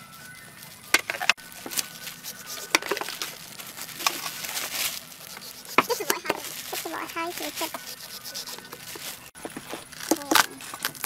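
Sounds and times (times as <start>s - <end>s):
blade scraping rind: 0.1s - 11.0s.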